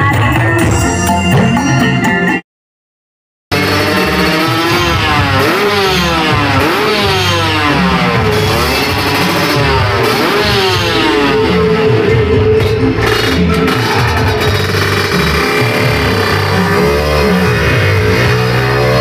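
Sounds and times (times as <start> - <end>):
two-stroke motorcycle engine revving: 3.5 - 19.0.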